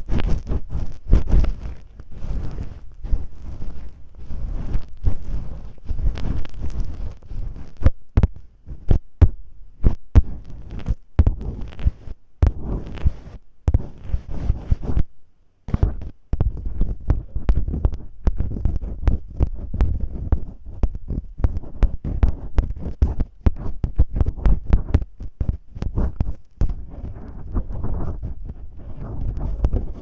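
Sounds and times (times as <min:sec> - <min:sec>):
soft low thumps: 0:00.0 - 0:15.1, 0:15.7 - 0:30.0
tape scratching on microphone: 0:00.0 - 0:15.1, 0:15.7 - 0:30.0.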